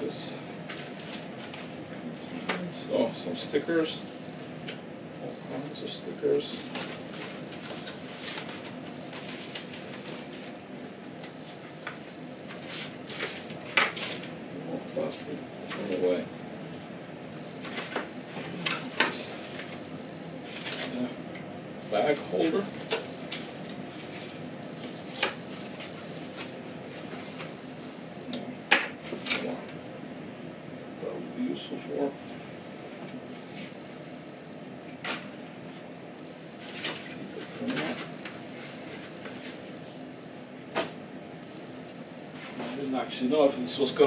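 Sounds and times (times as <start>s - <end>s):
steady background hum: 0.0s - 44.0s
steady background noise: 0.0s - 44.0s.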